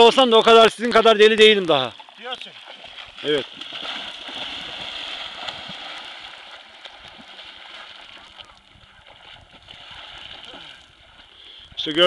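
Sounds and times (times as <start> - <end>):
water splashing: 0.8 - 12.0.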